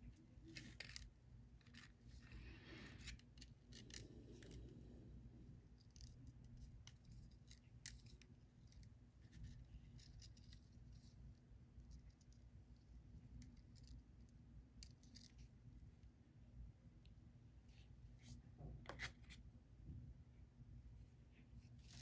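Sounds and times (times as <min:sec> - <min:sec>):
quiet low hum: 0:00.0 - 0:22.0.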